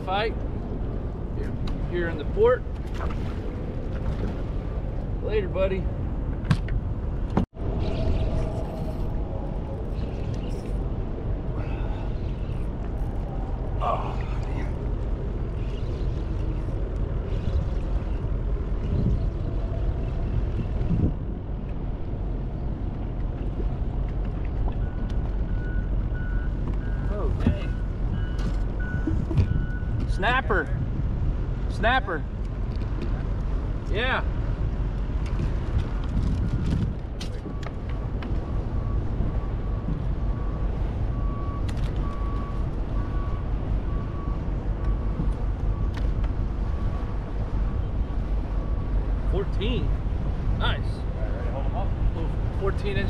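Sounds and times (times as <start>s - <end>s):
faint boat engine hum: 0.0s - 53.0s
wind rumbling on microphone: 0.0s - 53.0s.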